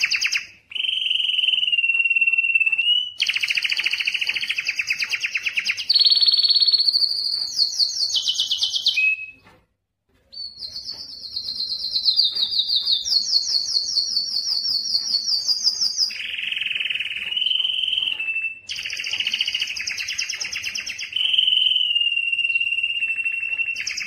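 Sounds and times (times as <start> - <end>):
canary singing trills: 0.0 - 9.5, 10.3 - 24.0.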